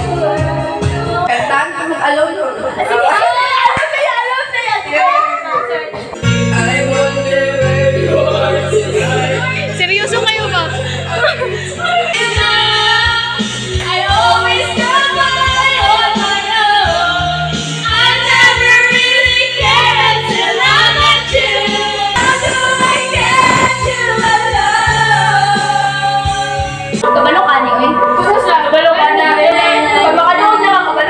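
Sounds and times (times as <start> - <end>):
karaoke backing track: 0.0 - 31.0
women singing karaoke: 0.0 - 31.0.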